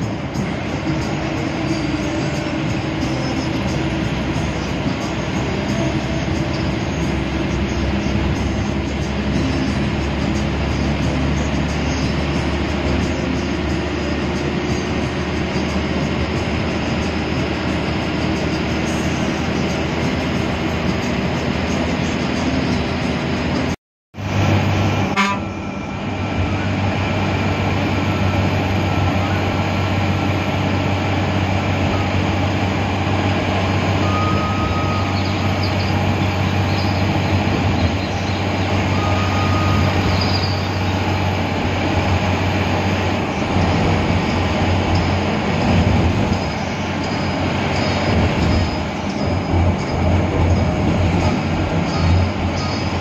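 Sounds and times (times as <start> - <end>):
bus engine and road noise: 0.0 - 53.0.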